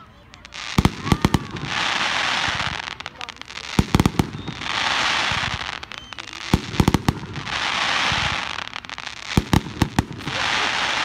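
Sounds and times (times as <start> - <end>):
fireworks bangs: 0.0 - 11.0
firework hiss: 0.1 - 11.0.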